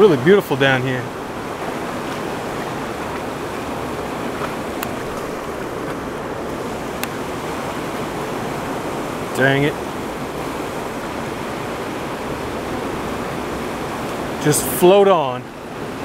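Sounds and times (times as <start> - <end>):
river water rushing over rocks: 0.0 - 16.0.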